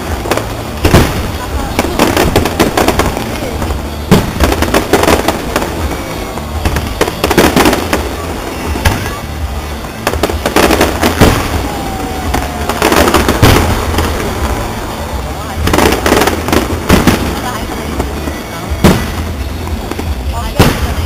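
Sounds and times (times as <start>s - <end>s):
fireworks bursting and crackling: 0.0s - 21.0s
low rumble: 0.0s - 21.0s.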